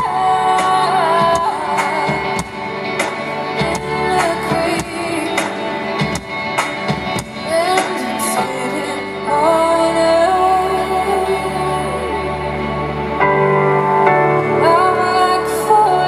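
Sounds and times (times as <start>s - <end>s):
woman singing: 0.0s - 6.4s, 7.2s - 13.1s, 14.5s - 16.0s
live pop band: 0.0s - 16.0s.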